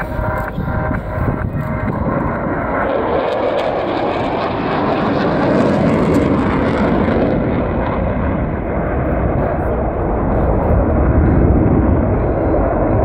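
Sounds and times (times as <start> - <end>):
jet roar in flight: 0.0 - 13.0.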